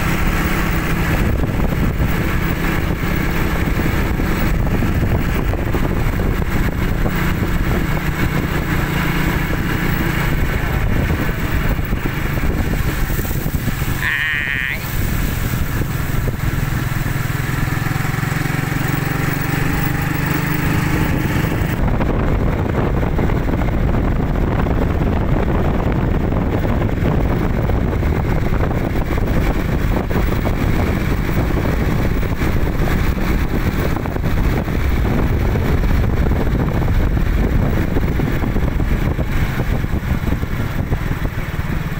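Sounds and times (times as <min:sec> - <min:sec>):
motorcycle engine hum: 0:00.0 - 0:41.9
road noise: 0:00.0 - 0:41.9
wind noise on microphone: 0:00.0 - 0:41.9.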